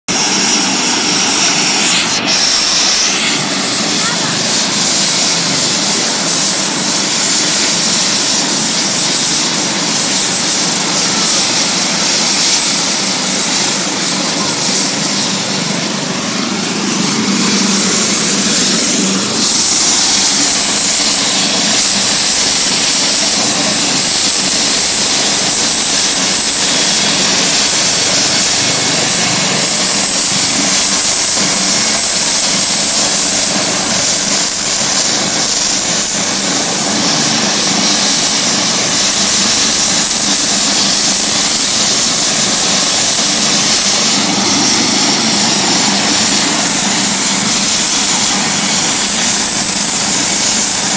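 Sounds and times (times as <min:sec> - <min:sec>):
helicopter rotor and turbine noise: 0:00.1 - 0:50.9
high turbine whine: 0:00.1 - 0:50.9.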